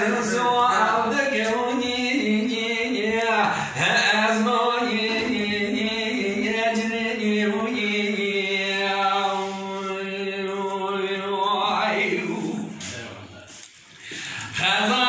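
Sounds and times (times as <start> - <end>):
man singing unaccompanied: 0.0 - 12.9, 14.5 - 15.0.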